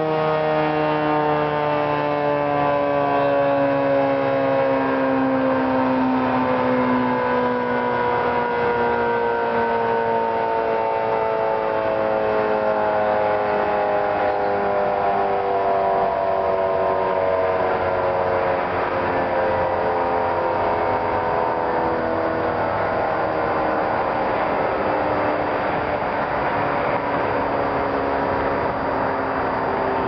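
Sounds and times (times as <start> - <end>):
three-tone siren winding down: 0.0 - 30.0.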